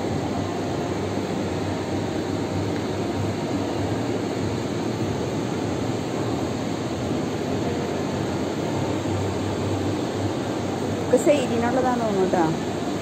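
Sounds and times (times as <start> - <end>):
shopping mall background noise: 0.0 - 13.0.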